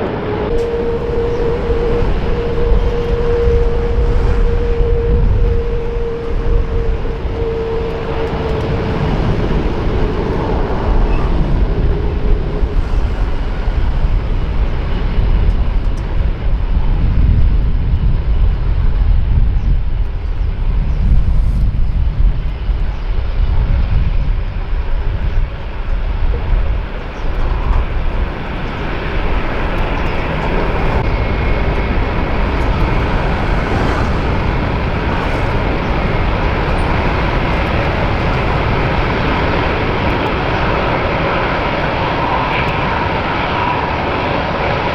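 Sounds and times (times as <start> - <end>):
high engine whine: 0.0 - 18.5, 24.6 - 44.9
jet engines rumbling: 0.0 - 44.9.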